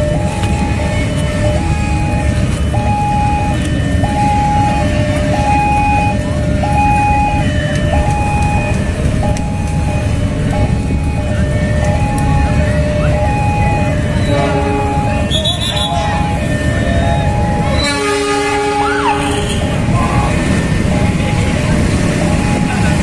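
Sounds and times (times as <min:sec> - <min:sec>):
motorcycles idling: 0:00.0 - 0:23.0
road traffic rumble: 0:00.0 - 0:23.0.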